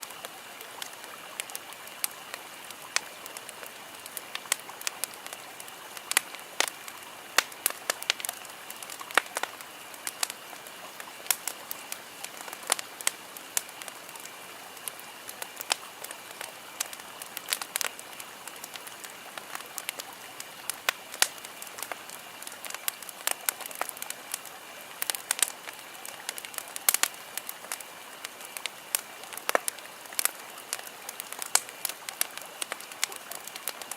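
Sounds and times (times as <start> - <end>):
sharp pops and crackles: 0.0 - 33.9
steady hiss: 0.0 - 33.9.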